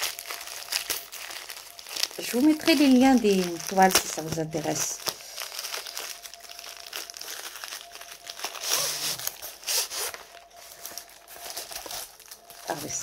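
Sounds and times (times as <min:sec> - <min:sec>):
plastic sleeve crinkling: 0:00.0 - 0:13.0.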